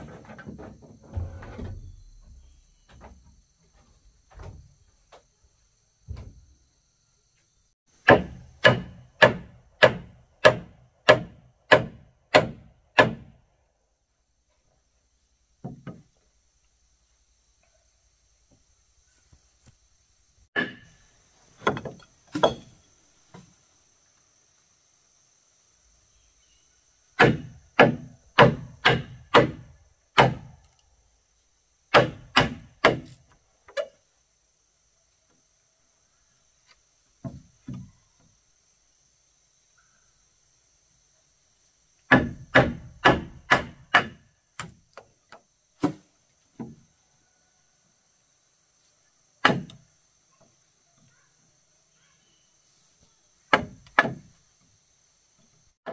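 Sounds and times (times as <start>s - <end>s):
high drone of insects: 0.0s - 55.9s.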